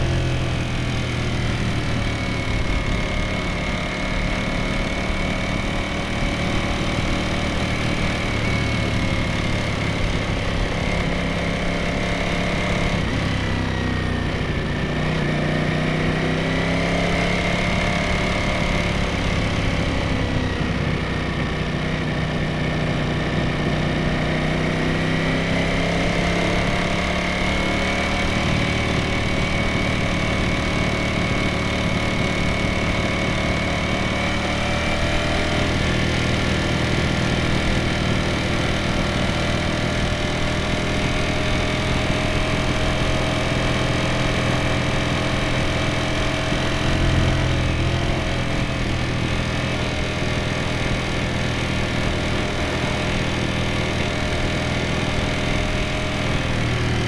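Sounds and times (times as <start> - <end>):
motorcycle engine and exhaust: 0.0 - 57.0.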